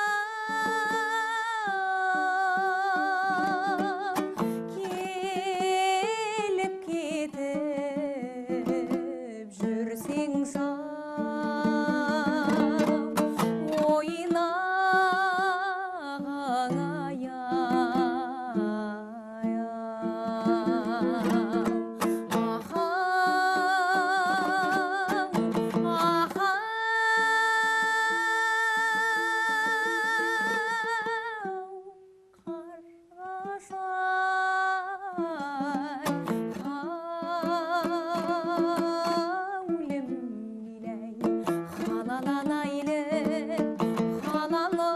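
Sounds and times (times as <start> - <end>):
plucked string accompaniment: 0.0 - 44.9
woman singing with vibrato: 0.0 - 44.9.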